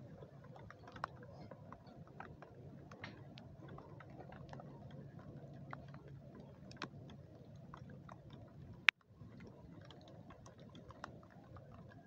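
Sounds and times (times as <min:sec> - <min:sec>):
faint irregular ticks and clicks: 0:00.0 - 0:12.0
low background hum: 0:00.0 - 0:12.0.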